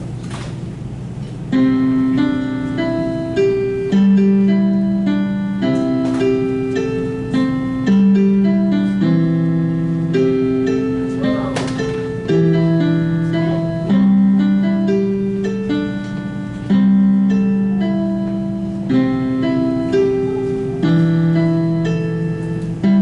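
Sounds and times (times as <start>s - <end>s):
slow solo instrumental piece: 1.5s - 23.0s.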